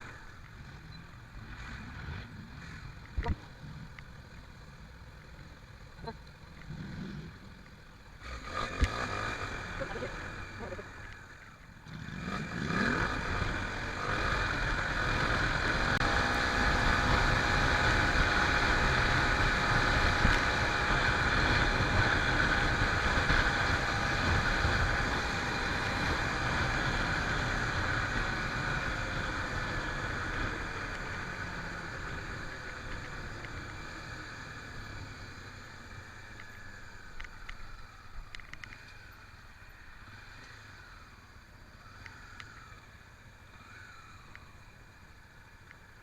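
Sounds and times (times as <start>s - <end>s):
motorcycle engine: 0.0s - 46.0s.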